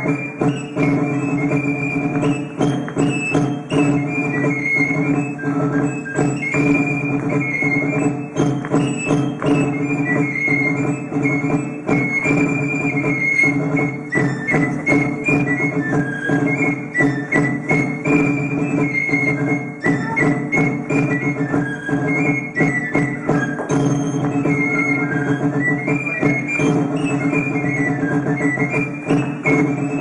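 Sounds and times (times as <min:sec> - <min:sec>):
high melody line: 0:00.0 - 0:30.0
percussive strikes: 0:00.0 - 0:30.0.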